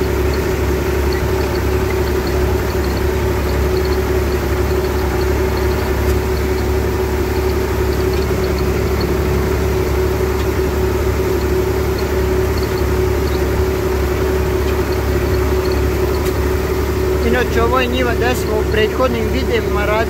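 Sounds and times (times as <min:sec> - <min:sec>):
steady whine: 0:00.0 - 0:20.0
tractor diesel engine running: 0:00.0 - 0:20.0.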